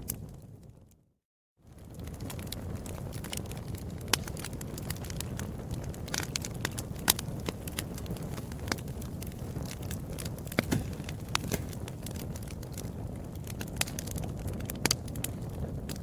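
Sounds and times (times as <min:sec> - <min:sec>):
wood fire crackling: 0:00.0 - 0:01.0, 0:01.6 - 0:16.0
sharp pops of burning wood: 0:01.7 - 0:16.0.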